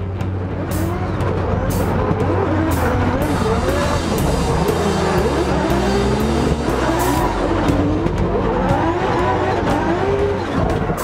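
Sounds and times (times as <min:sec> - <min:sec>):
tires squealing: 0:00.1 - 0:11.0
car engine revving hard: 0:00.4 - 0:11.0.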